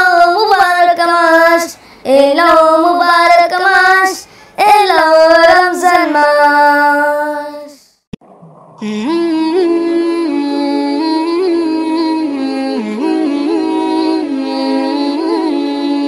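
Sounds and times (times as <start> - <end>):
boy singing: 0.0 - 7.9, 8.8 - 16.0.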